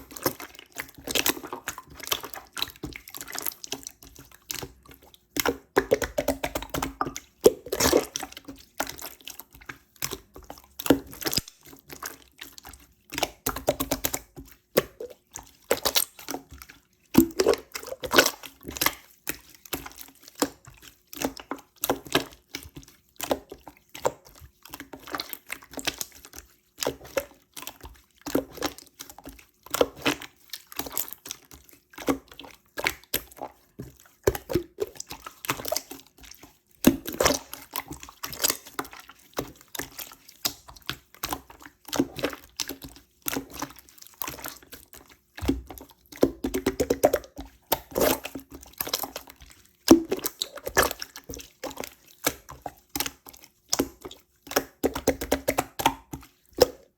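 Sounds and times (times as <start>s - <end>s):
slime squelching by hand: 0.0s - 56.9s.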